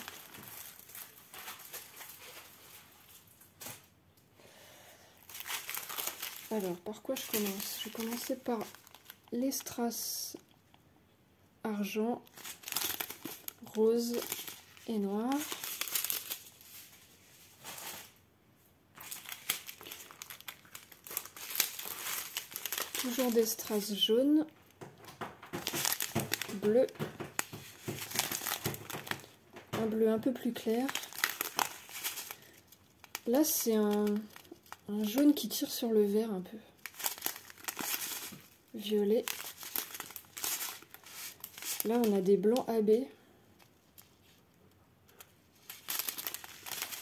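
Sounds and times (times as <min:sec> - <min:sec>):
plastic bags rustling and crinkling: 0:00.0 - 0:03.9, 0:05.2 - 0:10.2, 0:11.9 - 0:18.2, 0:18.9 - 0:36.2, 0:36.8 - 0:43.0, 0:45.1 - 0:47.0.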